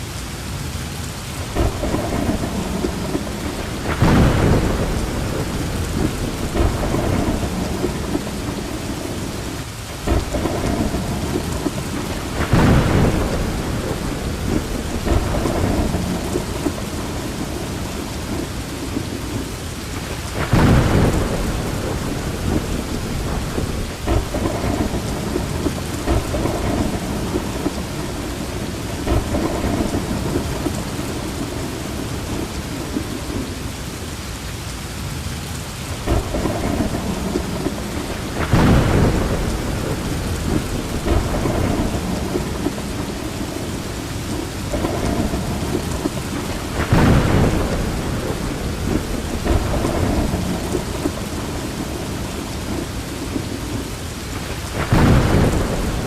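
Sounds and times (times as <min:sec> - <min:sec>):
steady rain: 0:00.0 - 0:56.0
thunder rumbling: 0:01.4 - 0:33.7, 0:35.8 - 0:56.0.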